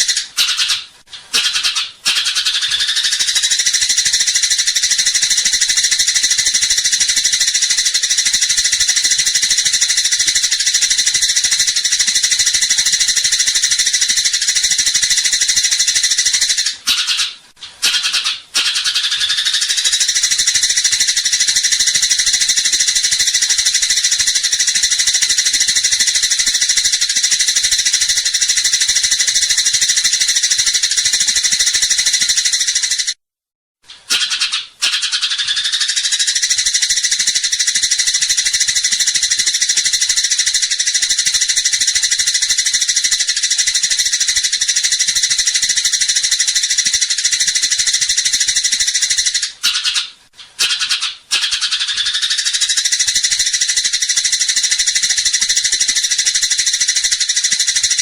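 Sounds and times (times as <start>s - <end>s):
sparrow chattering rattle: 0.0s - 33.2s, 34.0s - 58.0s.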